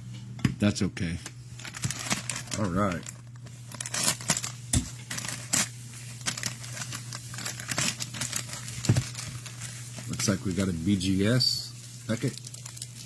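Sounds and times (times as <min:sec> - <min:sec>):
card wrappers crinkling and tearing: 0:01.3 - 0:13.0.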